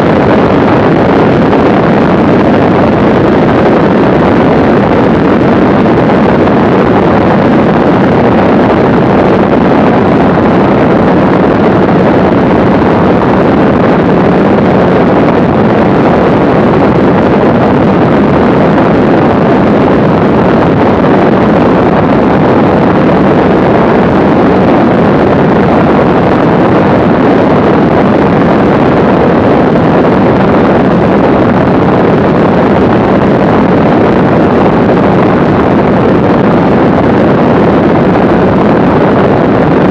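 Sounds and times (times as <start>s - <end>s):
light plane engine drone: 0.0s - 39.9s
wind rushing on microphone: 0.0s - 39.9s.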